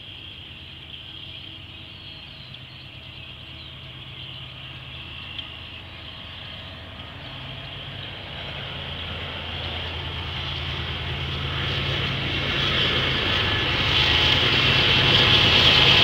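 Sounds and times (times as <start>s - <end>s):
distant locomotive engine drone: 0.0s - 16.0s.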